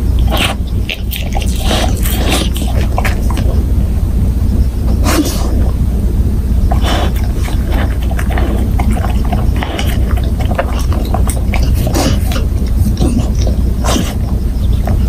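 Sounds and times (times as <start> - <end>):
dog licking and smacking: 0.0 - 3.9, 6.6 - 15.0
dog sniffing: 0.0 - 6.0, 6.6 - 15.0
low hum: 0.0 - 15.0.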